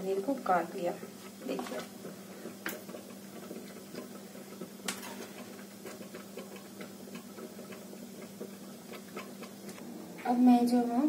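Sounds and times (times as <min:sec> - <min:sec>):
faint scattered ticking: 0:00.0 - 0:09.8
steady low hum: 0:00.0 - 0:11.0.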